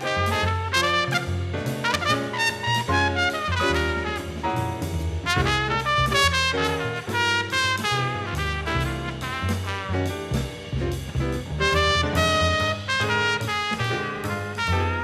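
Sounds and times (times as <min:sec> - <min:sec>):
trumpet solo: 0:00.0 - 0:10.4, 0:11.5 - 0:15.0
double bass notes: 0:00.0 - 0:15.0.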